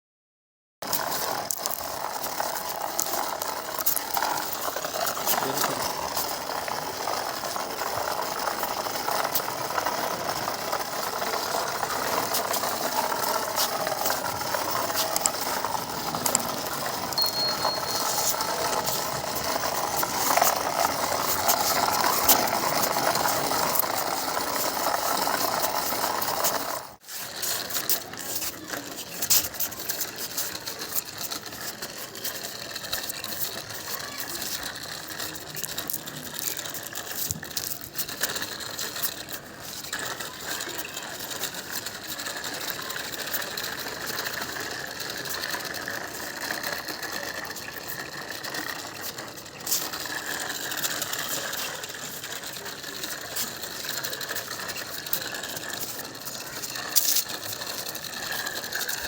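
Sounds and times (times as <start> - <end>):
plastic toy vehicles clattering: 0.8 - 59.0.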